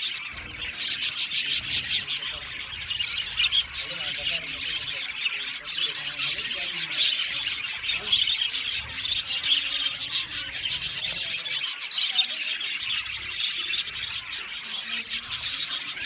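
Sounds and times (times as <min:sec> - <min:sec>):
budgerigars chattering and chirping: 0:00.0 - 0:16.0.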